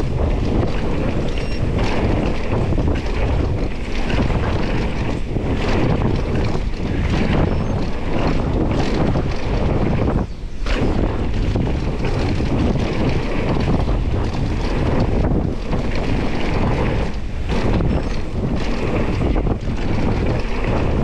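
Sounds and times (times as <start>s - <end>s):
tyres rolling on dirt trail: 0.0s - 21.0s
wind buffeting microphone: 0.0s - 21.0s.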